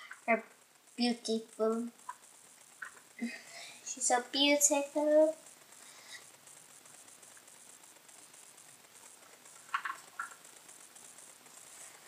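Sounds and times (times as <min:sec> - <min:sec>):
steady room hiss: 0:00.0 - 0:12.0.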